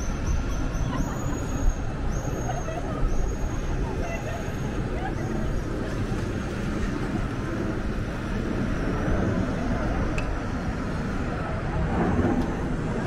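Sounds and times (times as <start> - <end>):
faint voices: 0.0 - 13.0
low outdoor rumble: 0.0 - 13.0.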